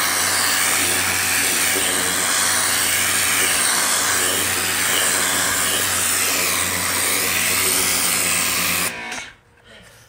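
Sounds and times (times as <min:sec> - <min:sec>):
water jet hissing on carpet: 0:00.0 - 0:08.9
pressure washer motor humming: 0:00.0 - 0:09.0.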